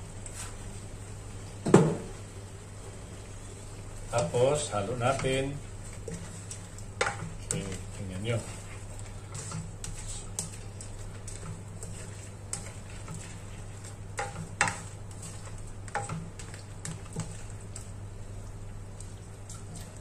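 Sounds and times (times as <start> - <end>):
steady low hum: 0.0 - 20.0
prawns crackling in a pan: 3.8 - 20.0.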